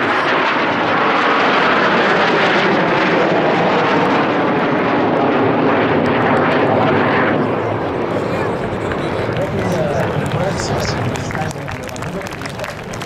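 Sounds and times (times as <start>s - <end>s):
jet engines rushing overhead: 0.0s - 13.0s.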